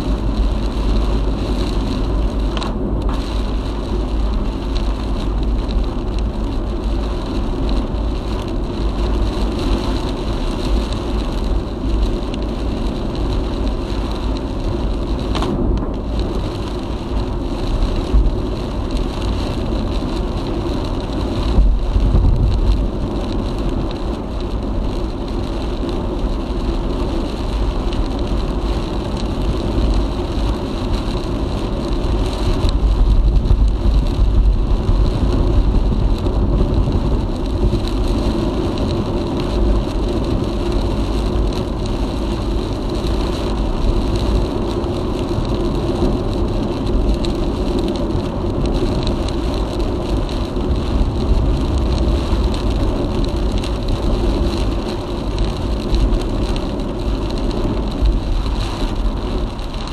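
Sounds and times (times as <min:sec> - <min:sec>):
heavy low rumble: 0:00.0 - 0:59.9
rain on car: 0:00.0 - 0:59.9
road and engine noise: 0:00.0 - 0:59.9
wind on car: 0:00.0 - 0:59.9.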